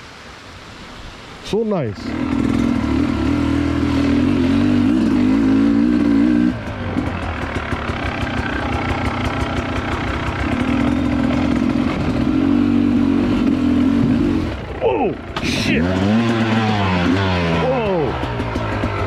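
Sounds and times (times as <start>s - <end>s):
dirt bike engine revving: 2.0s - 19.0s.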